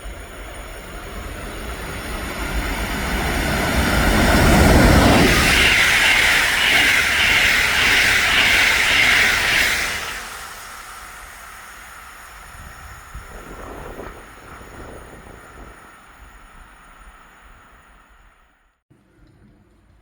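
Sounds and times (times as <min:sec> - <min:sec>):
train passing on rails: 0:00.0 - 0:18.6.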